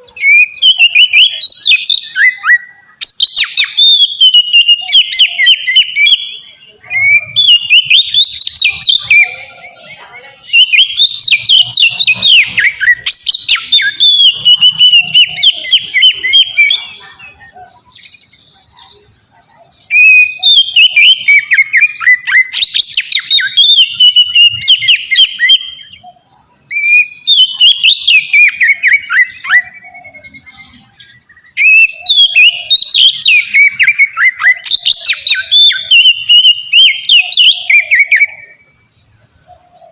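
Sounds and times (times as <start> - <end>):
bird singing whistled song: 0.0 - 39.9.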